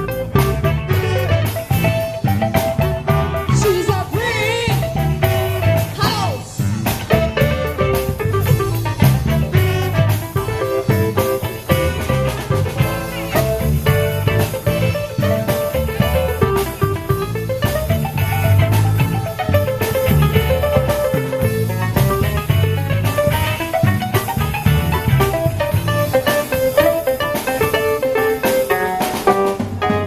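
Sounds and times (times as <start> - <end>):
band playing funk groove: 0.0 - 30.0
sliding lead guitar notes: 0.0 - 30.0.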